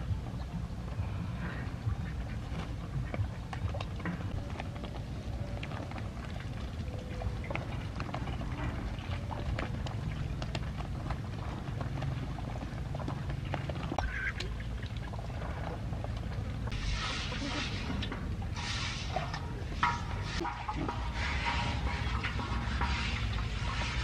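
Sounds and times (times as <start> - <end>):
ducks quacking: 0.4 - 12.4, 13.0 - 24.0
duck bills dabbling in wet mash: 1.5 - 24.0.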